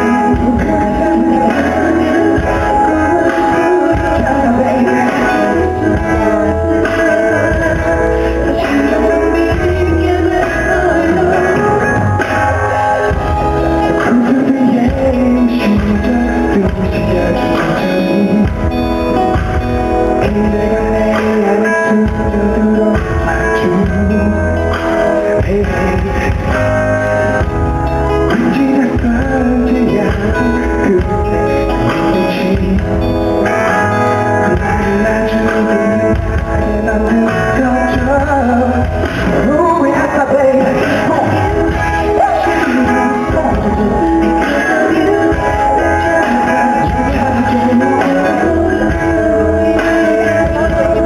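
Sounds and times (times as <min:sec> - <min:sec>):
bass: 0:00.0 - 0:51.0
live pop band playing: 0:00.0 - 0:51.0
person singing: 0:00.0 - 0:51.0
strummed guitar chords: 0:00.0 - 0:51.0.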